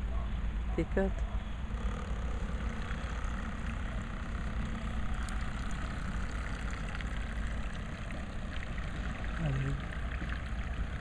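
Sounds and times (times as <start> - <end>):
steady low rumble: 0.0 - 11.0
model boat electric motor hum: 0.5 - 11.0.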